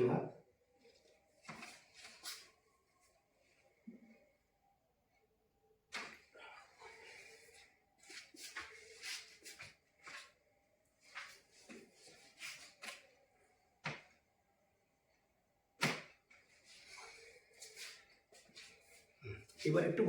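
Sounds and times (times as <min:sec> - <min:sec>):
clothing rustling on a table: 0:00.6 - 0:04.5, 0:05.9 - 0:19.8.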